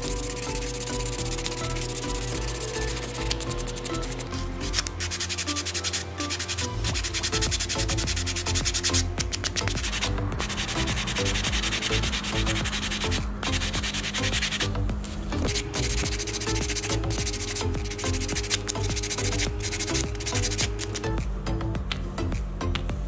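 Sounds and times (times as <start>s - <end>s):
sanding sponge scratching: 0.0s - 21.0s.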